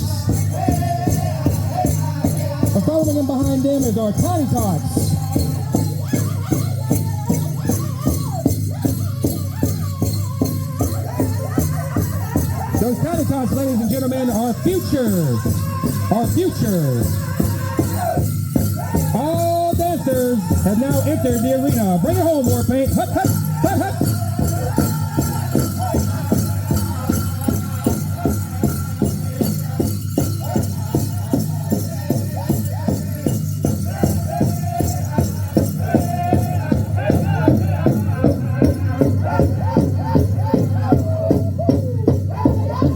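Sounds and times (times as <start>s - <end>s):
big drum beaten in steady beat: 0.0s - 42.9s
men singing high sliding phrases: 0.0s - 42.9s
metal jingles shaking: 0.0s - 42.9s.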